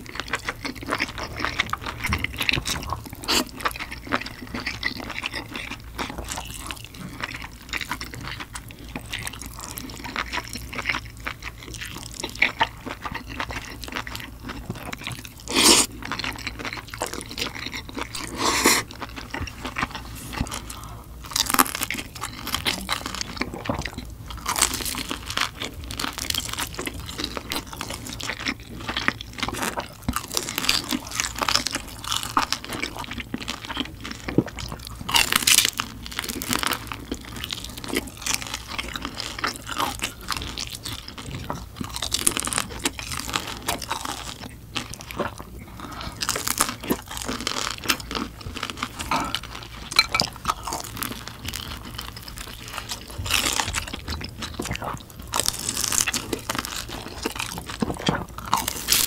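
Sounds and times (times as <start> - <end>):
wet chewing: 0.0 - 59.0
crisp crunching bites: 9.0 - 59.0.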